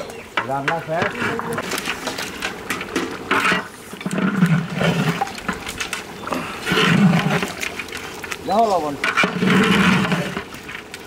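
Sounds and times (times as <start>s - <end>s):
metal ladle scraping pot: 0.0s - 11.0s.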